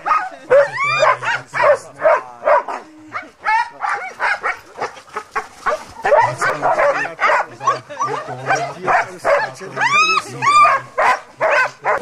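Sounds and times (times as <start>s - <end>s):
sled dogs barking and yelping: 0.0s - 12.0s.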